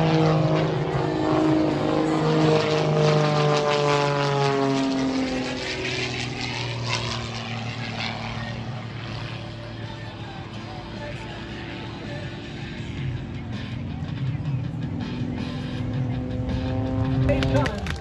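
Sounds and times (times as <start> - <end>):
propeller airplane passing: 0.0 - 18.0.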